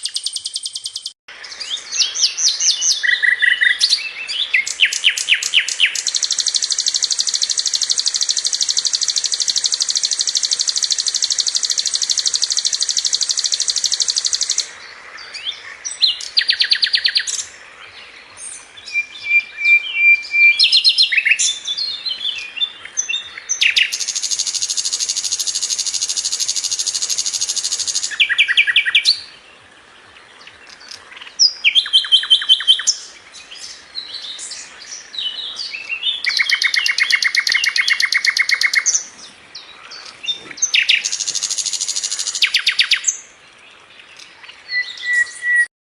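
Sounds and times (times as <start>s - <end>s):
bird singing buzzy trills: 0.0s - 45.7s.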